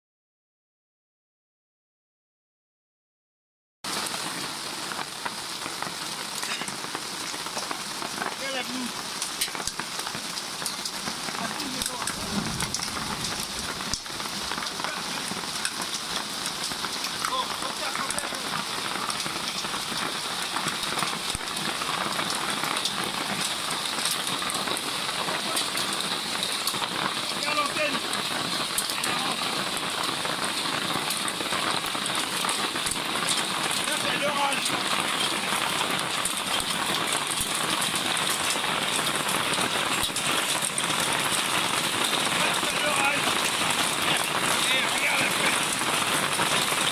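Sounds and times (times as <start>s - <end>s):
heavy rain hiss: 3.9s - 46.9s
raindrops ticking: 3.9s - 46.9s.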